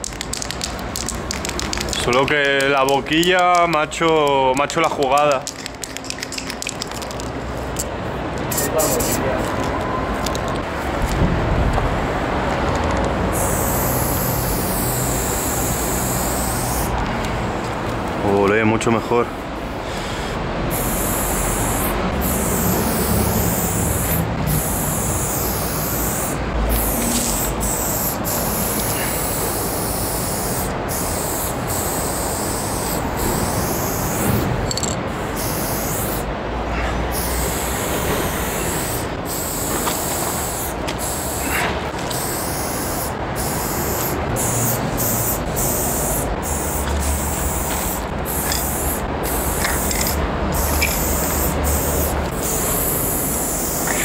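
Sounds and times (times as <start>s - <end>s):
spray paint can hissing: 0.0s - 3.2s, 5.4s - 10.5s, 13.3s - 17.0s, 20.7s - 36.3s, 37.1s - 54.0s.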